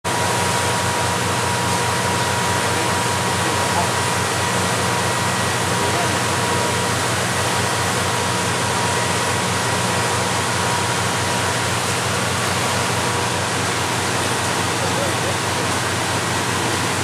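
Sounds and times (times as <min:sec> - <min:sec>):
boat engine humming: 0:00.1 - 0:17.0.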